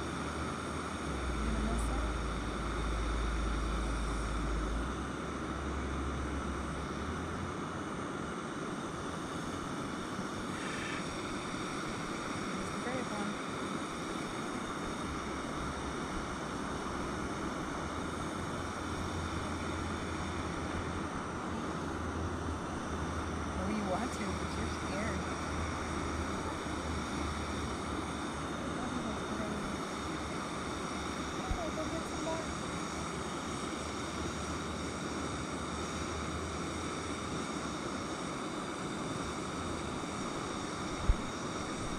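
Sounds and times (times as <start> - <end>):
steady rushing noise: 0.0 - 41.9.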